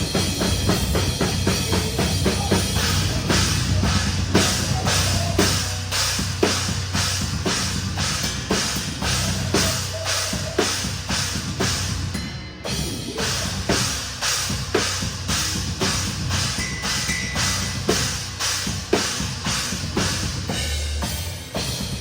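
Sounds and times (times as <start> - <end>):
low steady bass: 0.0 - 12.3, 13.0 - 21.8
drum kit playing: 0.0 - 22.0.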